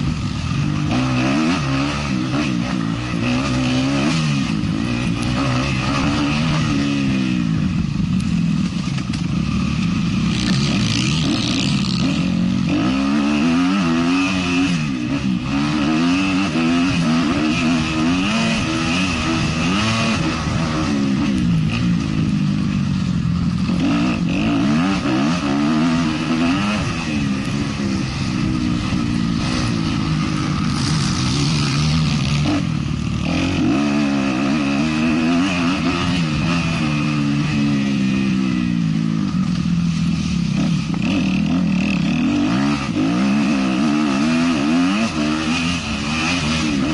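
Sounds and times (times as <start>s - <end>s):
motorbike engine revving hard: 0.0s - 46.9s.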